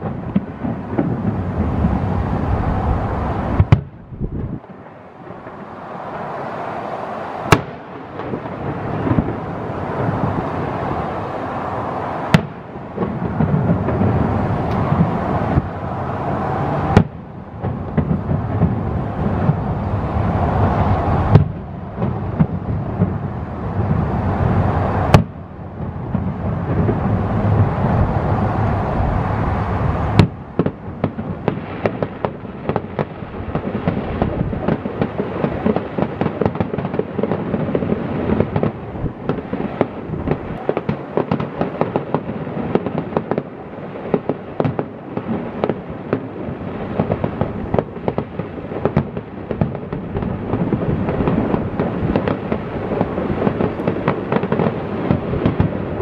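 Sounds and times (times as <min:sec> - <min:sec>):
fireworks bangs: 0:00.0 - 0:56.0
fireworks crackling pops: 0:00.0 - 0:56.0
rolling rumble: 0:00.0 - 0:56.0.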